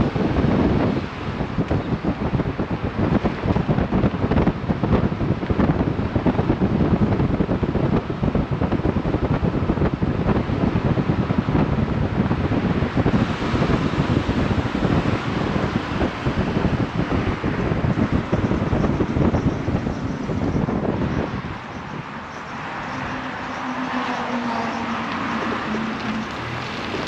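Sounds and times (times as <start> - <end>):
car road and engine noise: 0.0 - 27.0
wind buffeting microphone: 0.0 - 27.0.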